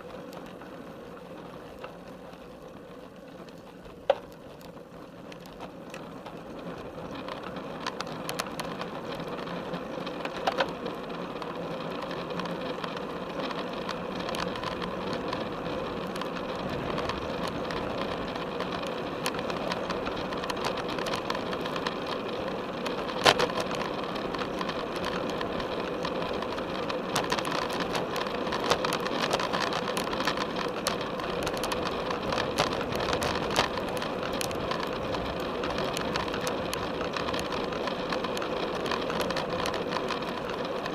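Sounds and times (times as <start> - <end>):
bike tyre and drivetrain noise: 0.0 - 40.9.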